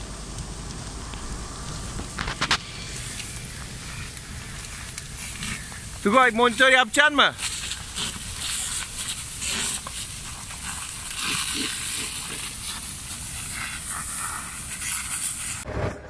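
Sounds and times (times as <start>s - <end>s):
fire hose spraying water: 0.0s - 15.6s
flames burning: 0.0s - 15.8s.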